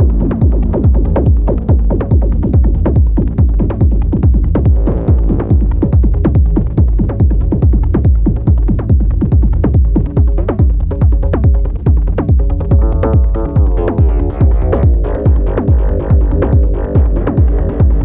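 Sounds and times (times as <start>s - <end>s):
fast repeating synth beat: 0.0s - 18.0s
low bass drone: 0.0s - 18.0s.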